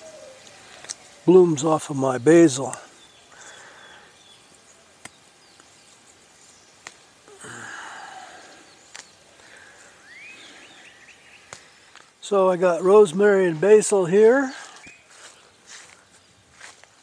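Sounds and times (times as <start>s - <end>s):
faint bird chirps: 0.0s - 17.0s
plants rustling: 0.0s - 17.0s.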